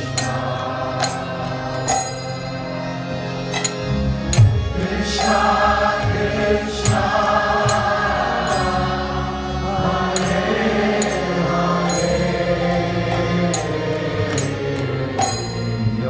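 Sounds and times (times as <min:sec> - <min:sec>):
group chanting: 0:00.0 - 0:02.7, 0:04.7 - 0:16.0
harmonium drone: 0:00.0 - 0:16.0
percussion strikes: 0:00.0 - 0:16.0.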